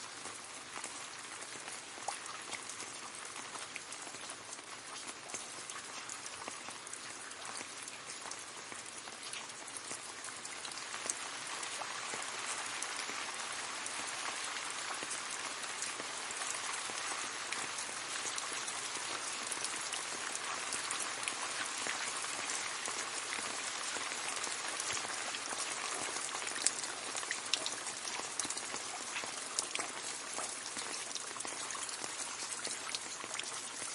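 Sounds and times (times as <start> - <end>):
gentle rain on leaves: 0.0 - 33.9.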